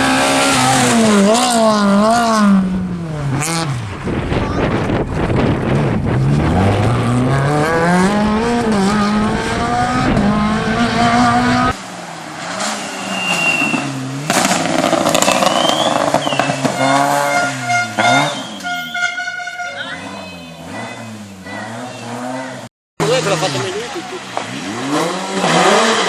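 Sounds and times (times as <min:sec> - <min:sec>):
rally car engine revving: 0:00.0 - 0:18.6, 0:19.8 - 0:26.0.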